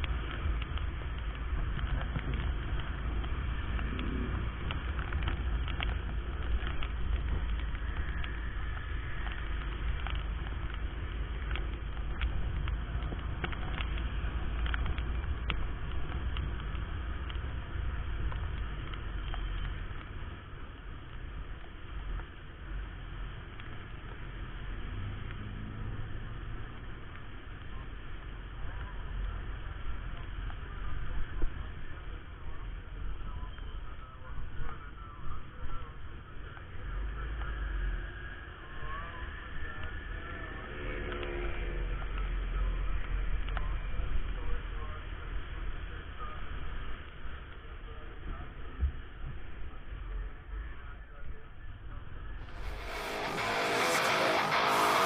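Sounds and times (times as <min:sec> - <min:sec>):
motorcycle engine rumble: 0:00.0 - 0:55.0.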